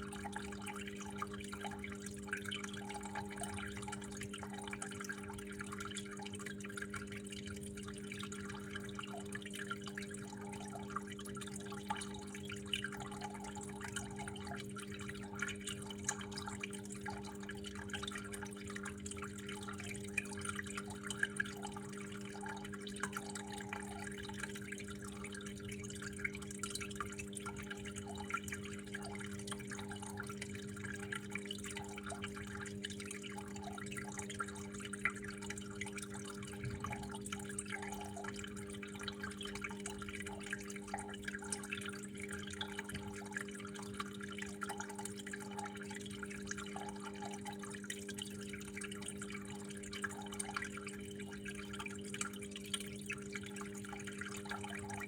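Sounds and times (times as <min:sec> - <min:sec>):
constant low hum: 0:00.0 - 0:52.8
water flowing and dripping: 0:00.0 - 0:55.0.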